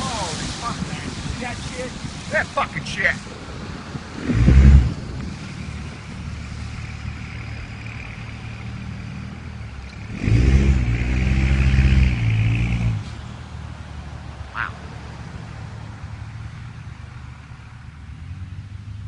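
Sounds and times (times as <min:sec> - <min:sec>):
vehicle driving past: 0:03.7 - 0:19.0.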